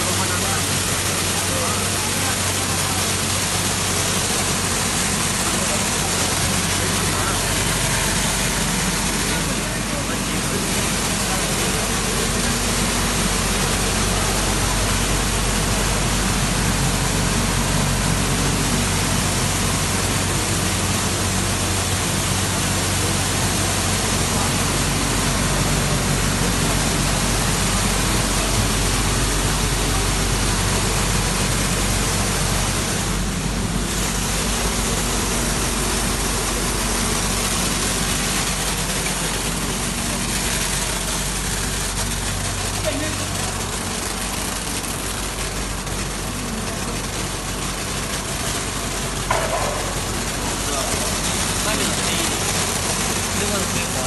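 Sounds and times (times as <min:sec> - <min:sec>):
low machine hum: 0:00.0 - 0:54.0
machine air hiss: 0:00.0 - 0:54.0.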